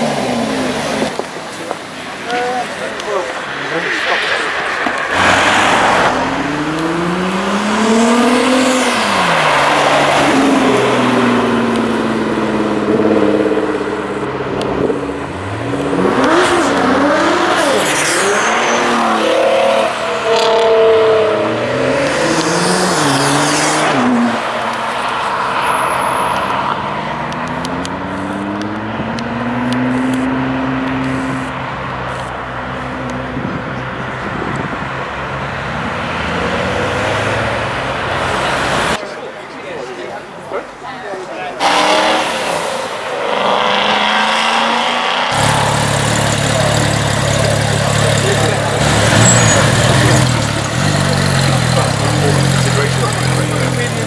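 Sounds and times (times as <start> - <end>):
sports cars accelerating hard: 0.0 - 39.0, 41.5 - 54.0.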